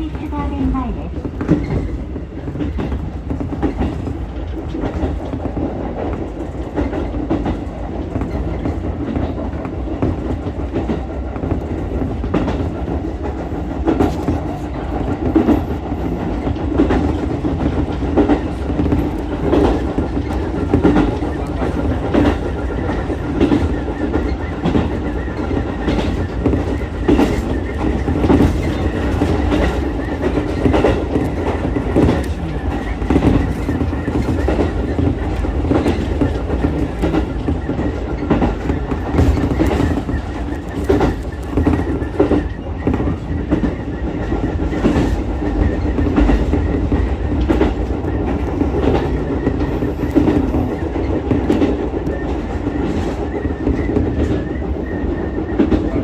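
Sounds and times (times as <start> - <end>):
railcar rumbling: 0.0 - 56.0
wheels clicking over rail joints: 0.0 - 56.0.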